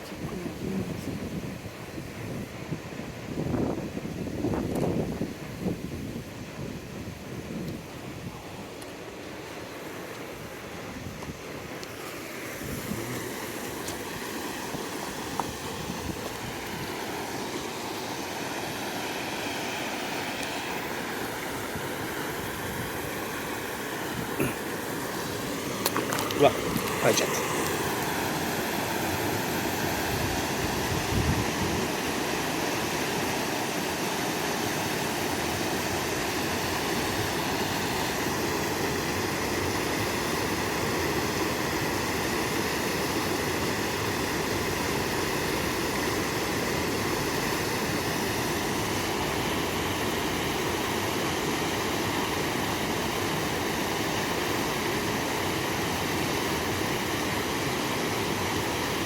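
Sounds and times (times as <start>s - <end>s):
river water rushing: 7.8s - 59.0s.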